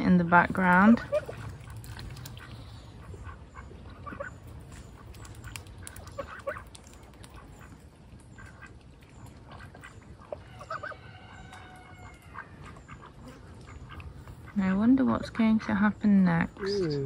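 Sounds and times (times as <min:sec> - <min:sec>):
ducks quacking: 0:00.3 - 0:17.0.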